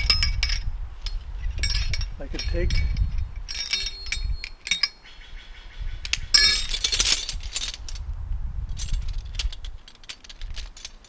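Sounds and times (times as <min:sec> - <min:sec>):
climbing hardware clinking: 0:00.0 - 0:05.1, 0:06.0 - 0:08.1, 0:08.7 - 0:11.0.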